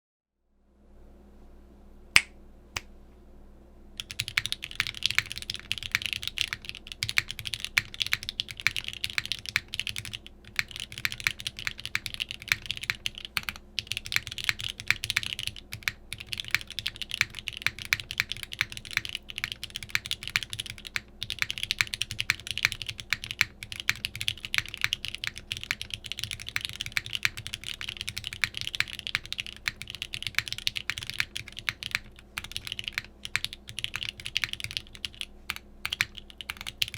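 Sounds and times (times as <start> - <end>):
mechanical keyboard typing: 4.0 - 36.9.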